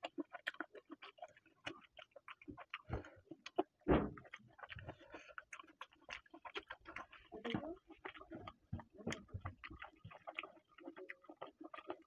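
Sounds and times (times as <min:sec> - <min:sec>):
open-mouth chewing and lip-smacking: 0:00.0 - 0:12.0.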